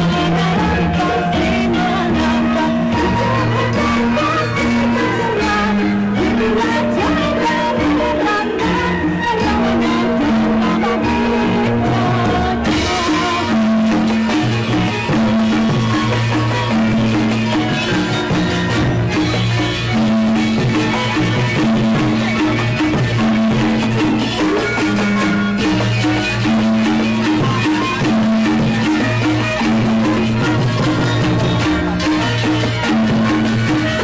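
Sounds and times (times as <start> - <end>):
drums: 0.0 - 34.0
gamelan ensemble playing: 0.0 - 34.0.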